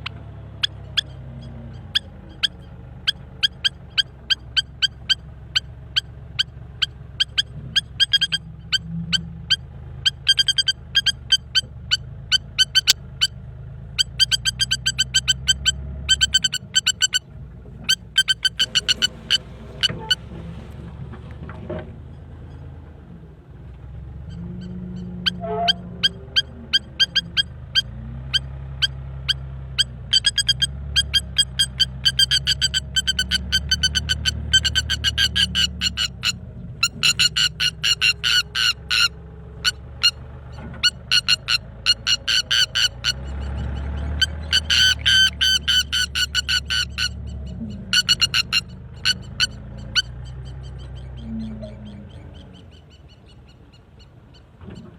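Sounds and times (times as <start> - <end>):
bird alarm calls: 0.0 - 13.3, 14.0 - 20.3, 24.2 - 54.9.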